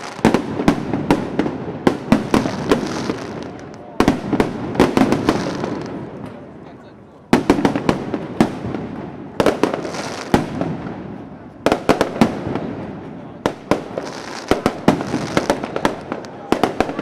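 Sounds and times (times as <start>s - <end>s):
fireworks bangs: 0.0s - 6.7s, 7.3s - 17.0s.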